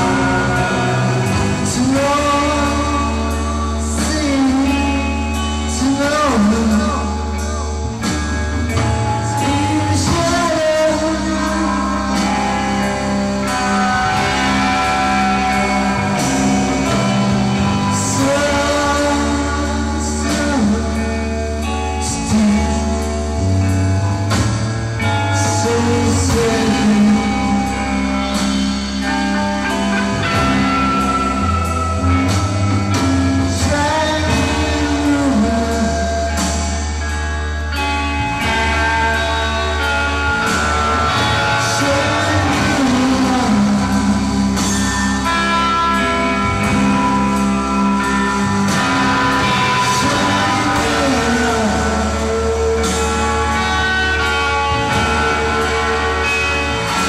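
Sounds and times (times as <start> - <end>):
person singing: 0.0 - 24.4, 25.0 - 57.0
psychedelic rock band playing: 0.0 - 57.0.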